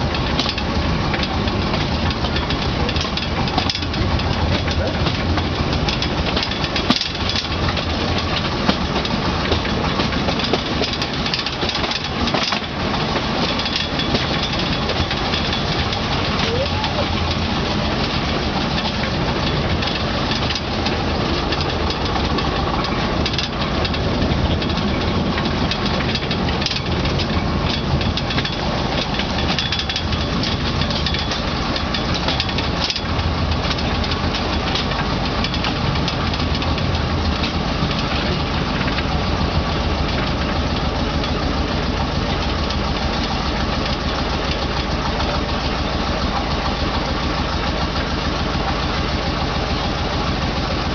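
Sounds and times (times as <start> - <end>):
train engine running: 0.0 - 50.9
wagons knocking on track: 0.0 - 50.9.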